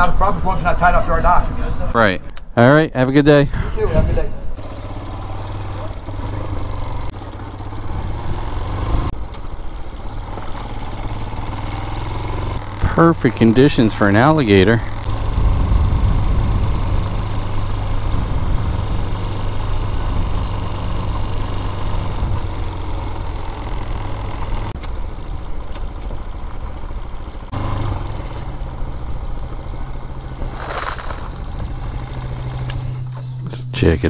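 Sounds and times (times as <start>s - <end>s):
motorcycle engine running: 3.8s - 34.0s.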